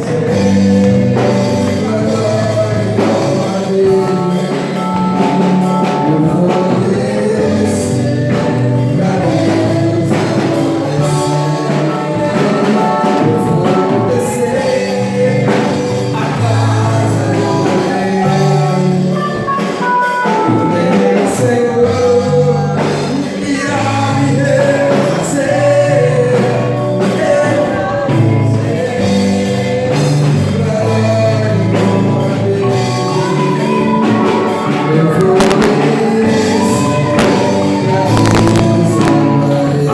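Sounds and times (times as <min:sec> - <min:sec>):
gospel singing over a band: 0:00.0 - 0:39.9.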